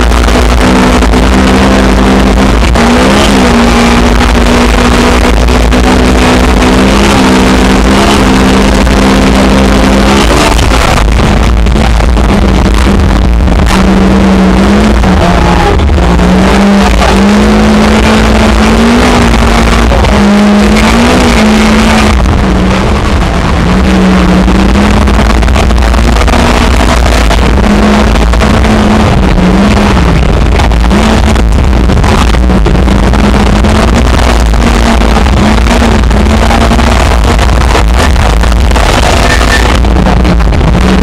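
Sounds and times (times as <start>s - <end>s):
car engine running hard: 0.0s - 41.0s
road and wind noise: 0.0s - 41.0s.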